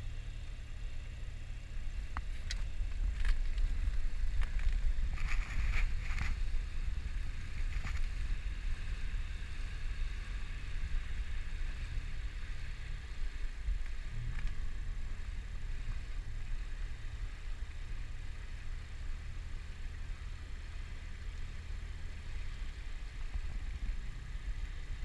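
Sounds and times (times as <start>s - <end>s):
boat engine rumbling: 0.0s - 25.0s.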